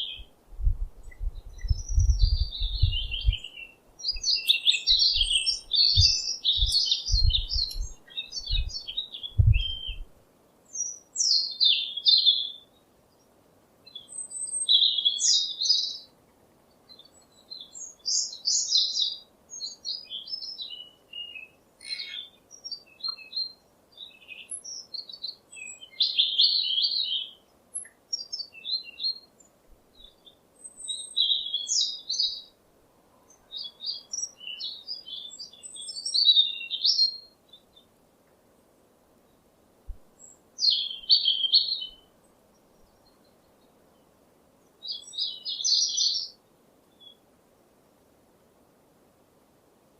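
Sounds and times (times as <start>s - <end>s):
songbirds chirping and twittering: 0.0s - 49.9s.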